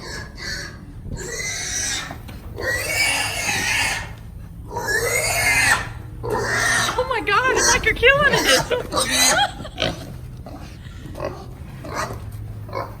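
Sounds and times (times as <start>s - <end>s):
pig squealing: 0.0s - 13.0s.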